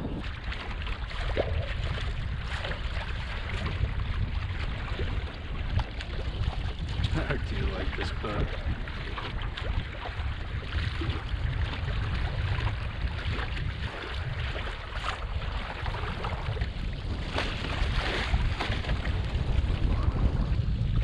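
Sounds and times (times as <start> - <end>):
water rushing along hull: 0.0 - 21.0
wind rumbling on microphone: 0.0 - 21.0.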